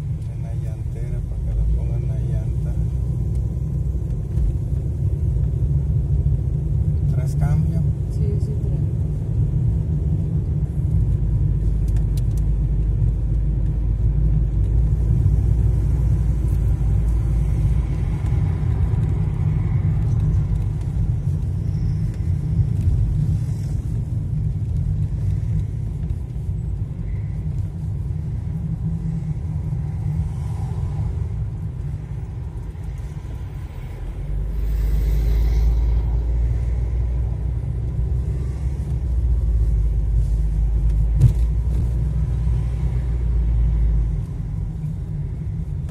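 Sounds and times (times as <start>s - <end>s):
road and engine rumble in car: 0.0s - 45.9s.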